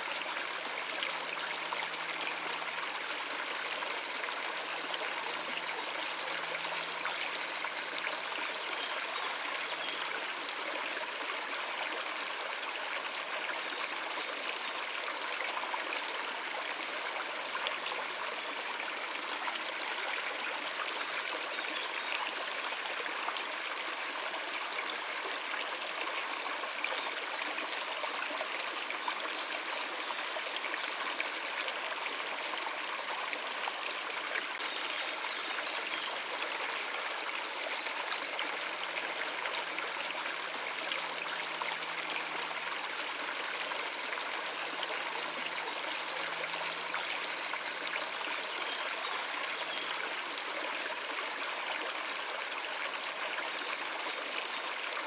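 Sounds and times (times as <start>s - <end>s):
river water running over rocks: 0.0s - 55.0s.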